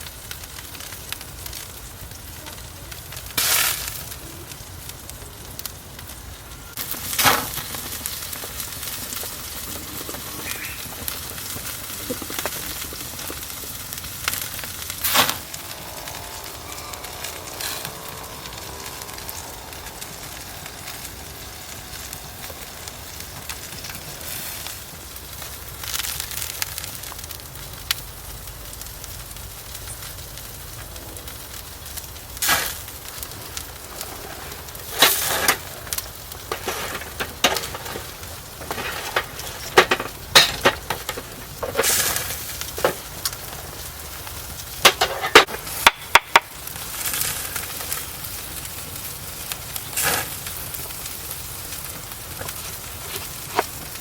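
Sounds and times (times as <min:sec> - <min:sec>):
fire hissing: 0:00.0 - 0:54.0
fire popping: 0:00.0 - 0:54.0
wood fire crackling: 0:00.0 - 0:54.0.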